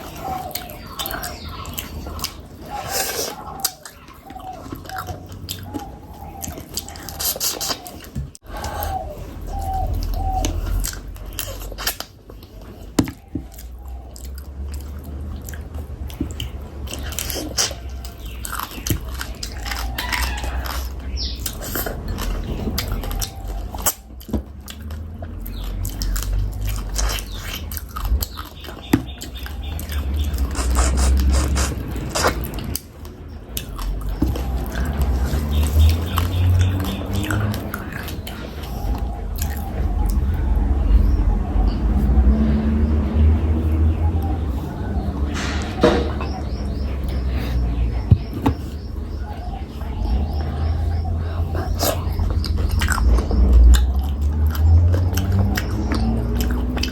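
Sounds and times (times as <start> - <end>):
chewing and biting food: 0.0 - 45.3, 46.2 - 56.9.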